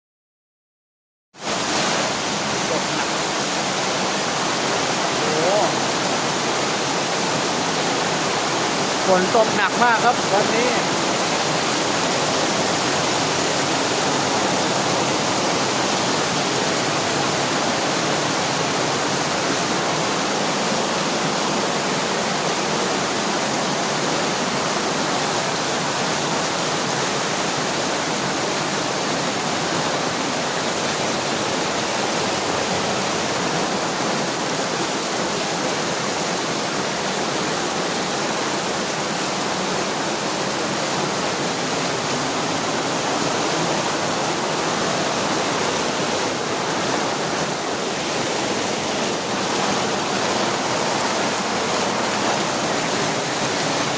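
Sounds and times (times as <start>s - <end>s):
heavy rain: 1.4s - 53.9s.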